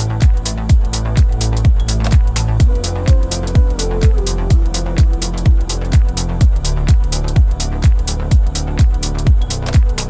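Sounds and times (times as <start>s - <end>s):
electronic dance music: 0.0s - 10.0s
hi-hats: 0.0s - 10.0s
steady kick drum: 0.0s - 10.0s.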